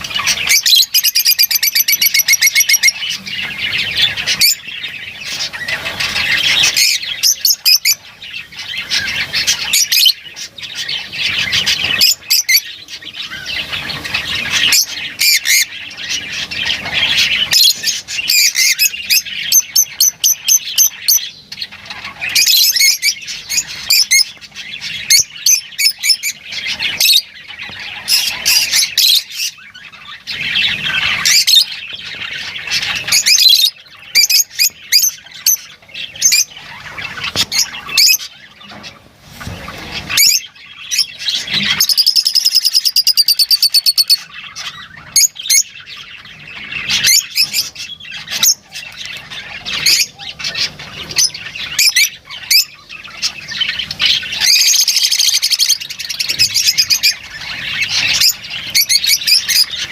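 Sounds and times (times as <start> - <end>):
lovebirds chattering: 0.0 - 59.9.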